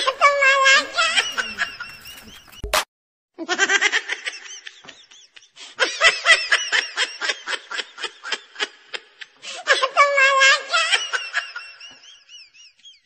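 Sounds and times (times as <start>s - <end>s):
high-pitched laughter: 0.0s - 2.6s, 3.4s - 13.0s.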